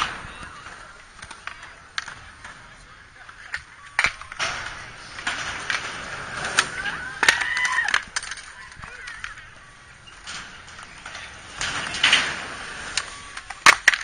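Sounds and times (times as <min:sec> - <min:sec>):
skateboards rolling and clacking: 0:00.0 - 0:14.0.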